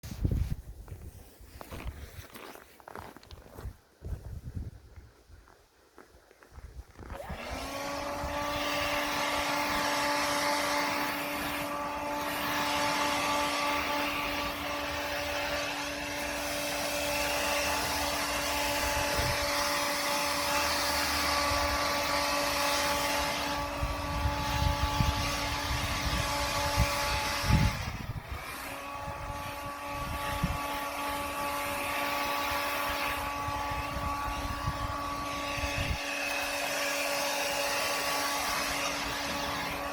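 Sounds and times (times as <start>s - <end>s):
leaf blower running: 7.0s - 39.9s.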